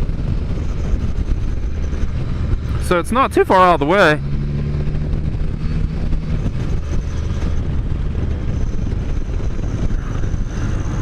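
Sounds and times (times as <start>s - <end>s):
wind on microphone: 0.0s - 3.2s, 4.2s - 11.0s
motorcycle engine running: 0.0s - 11.0s.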